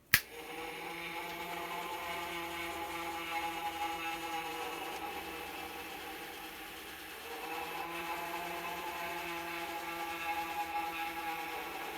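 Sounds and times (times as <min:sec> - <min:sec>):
small electric motor whirring: 0:00.3 - 0:11.9.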